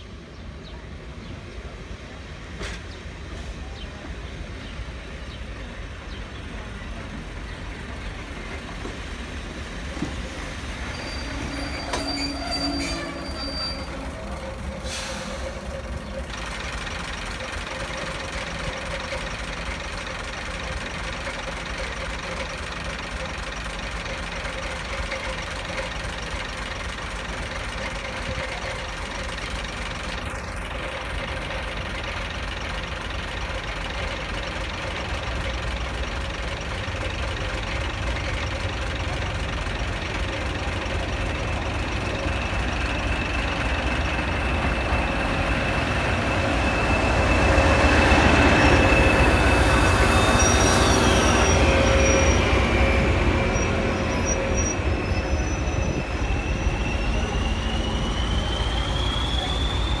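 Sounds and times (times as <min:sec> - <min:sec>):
diesel locomotive engine rumble: 0:00.0 - 1:00.0
brake and wheel squeals: 0:02.5 - 1:00.0.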